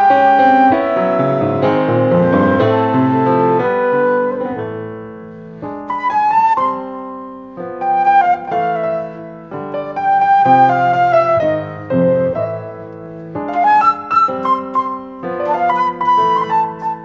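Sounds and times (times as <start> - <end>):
sustained flute notes: 0.0 - 5.0, 5.8 - 17.0
piano chords: 0.0 - 17.0.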